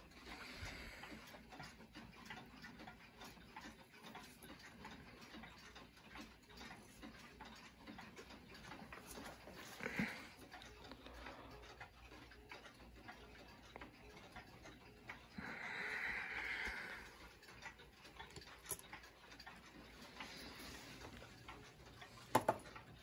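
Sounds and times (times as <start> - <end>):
clock ticking faintly: 0.0 - 23.0.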